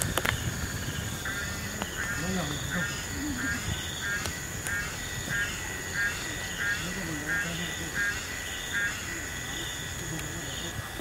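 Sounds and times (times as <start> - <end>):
animals calling rhythmically: 0.2 - 11.0.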